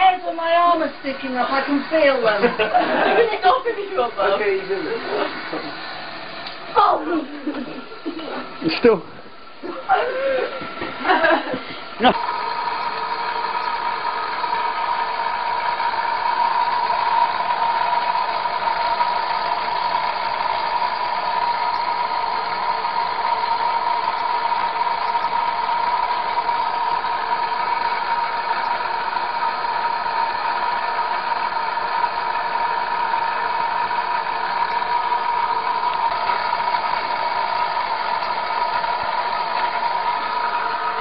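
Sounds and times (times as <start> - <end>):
generator belt whirring hum: 0.0 - 41.0.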